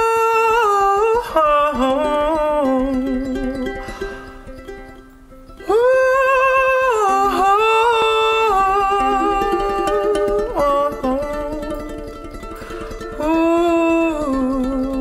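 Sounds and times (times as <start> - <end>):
ukulele strumming: 0.0 - 15.0
wordless vocal melody: 0.0 - 15.0.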